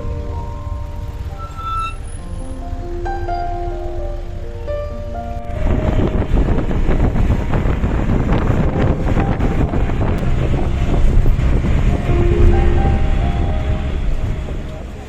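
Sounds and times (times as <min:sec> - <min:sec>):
loud outdoor rumbling: 0:00.0 - 0:15.0.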